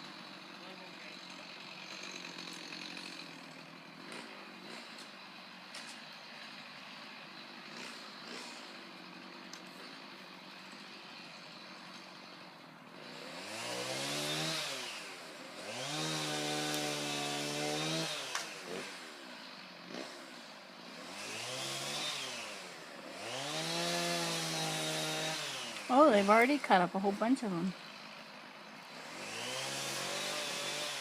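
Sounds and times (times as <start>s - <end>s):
chainsaw idling and revving: 0.0s - 31.0s.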